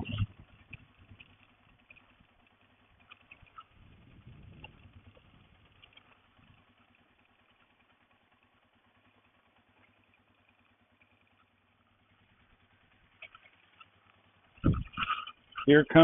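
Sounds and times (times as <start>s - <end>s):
faint idling engine hum: 0.0s - 16.0s.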